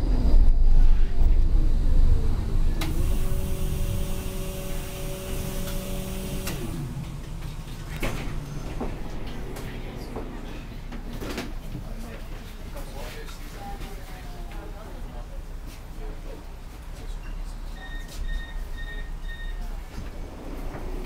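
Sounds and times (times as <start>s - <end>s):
tram low rumble: 0.0s - 21.0s.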